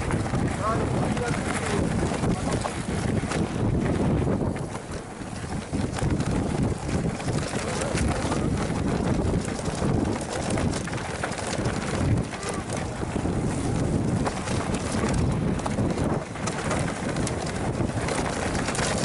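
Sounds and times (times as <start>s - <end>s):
bike knocks and rattles: 0.0s - 19.0s
tyres rumbling on trail: 0.0s - 19.0s
wind buffeting microphone: 0.0s - 19.0s.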